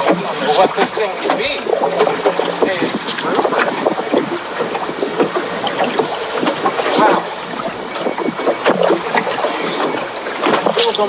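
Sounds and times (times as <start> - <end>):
irregular knocks: 0.0 - 11.0
water splashing against boat hull: 0.0 - 11.0
wind on microphone: 0.0 - 11.0.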